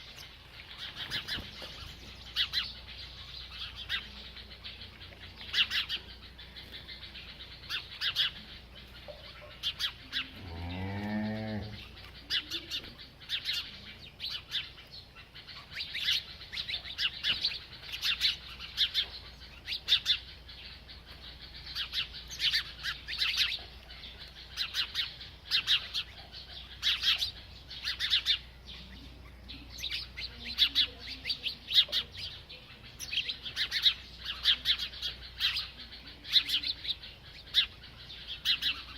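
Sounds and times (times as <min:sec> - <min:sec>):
small bird chirping: 0:00.0 - 0:38.9.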